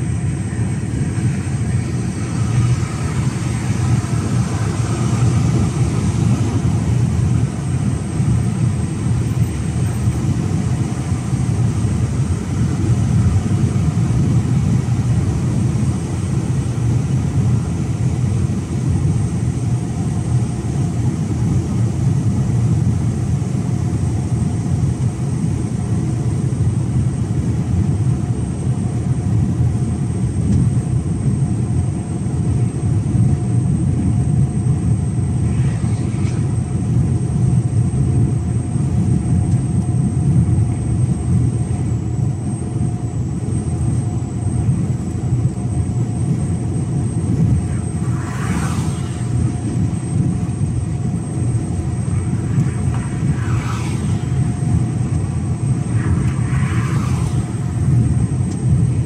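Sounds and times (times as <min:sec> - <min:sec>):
truck engine and road drone: 0:00.0 - 0:59.0.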